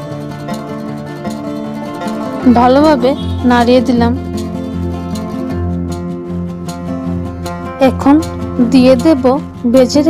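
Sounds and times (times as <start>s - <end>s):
plucked string instrumental music: 0.0s - 10.0s.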